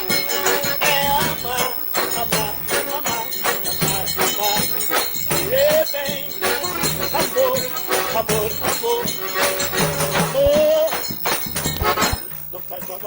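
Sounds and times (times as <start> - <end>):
accordion melody: 0.0 - 13.0
jingling hand percussion: 0.0 - 13.0.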